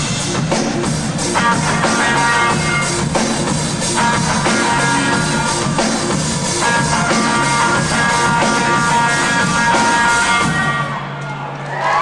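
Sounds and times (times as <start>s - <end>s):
drum kit: 0.0s - 11.0s
electric guitar: 0.0s - 11.0s.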